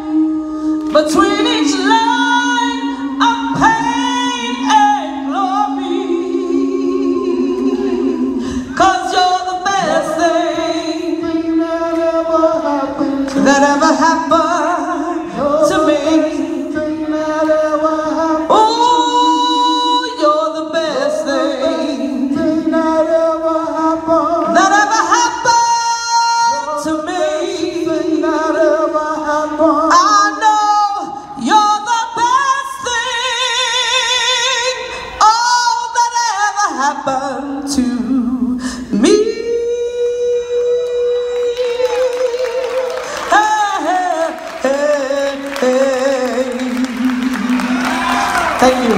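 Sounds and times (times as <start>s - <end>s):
woman singing with vibrato: 0.0s - 48.9s.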